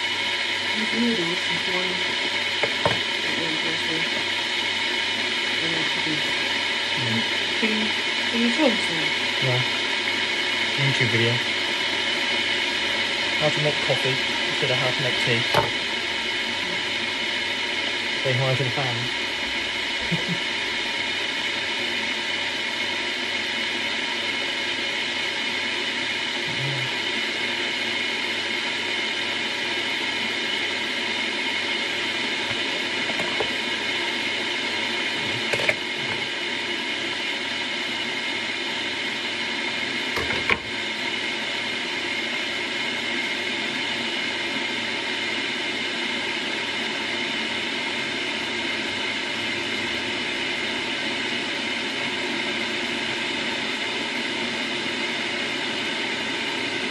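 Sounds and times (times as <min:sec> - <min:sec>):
kitchen appliance whirring: 0:00.0 - 0:56.9.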